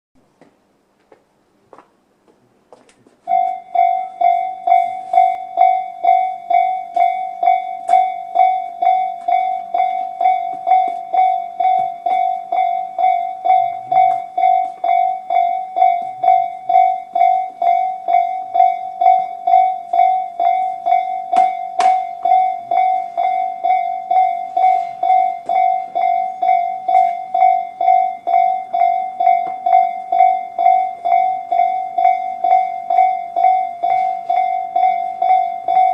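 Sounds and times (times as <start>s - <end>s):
level crossing warning bells: 3.2s - 35.9s.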